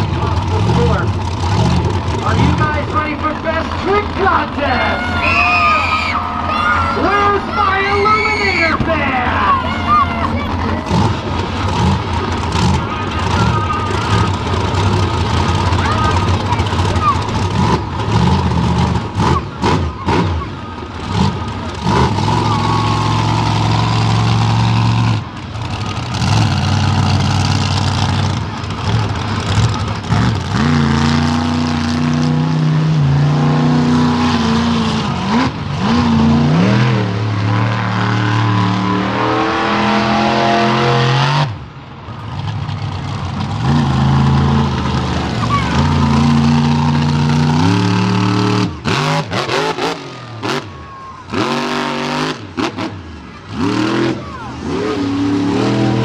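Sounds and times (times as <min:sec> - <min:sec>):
monster truck engine revving: 0:00.0 - 0:56.0.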